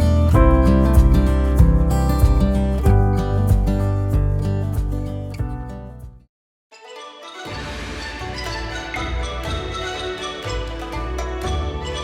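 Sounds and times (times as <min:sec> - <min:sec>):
background music: 0:00.0 - 0:06.1, 0:06.8 - 0:12.0.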